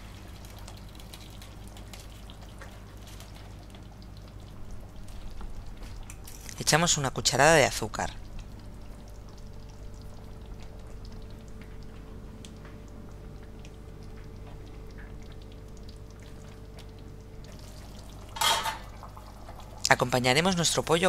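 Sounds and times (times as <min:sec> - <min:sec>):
sauce simmering in a pan: 0:00.0 - 0:20.7
low hum: 0:00.0 - 0:20.8.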